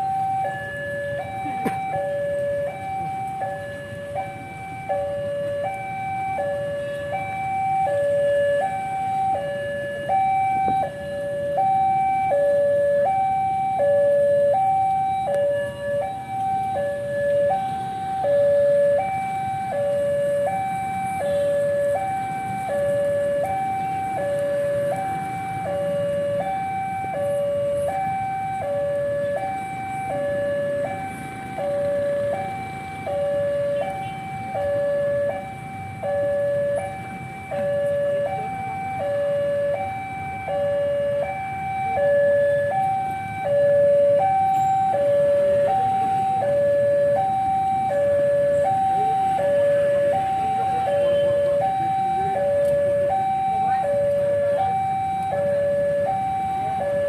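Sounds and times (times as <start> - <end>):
level crossing two-tone alarm: 0.0 - 57.0.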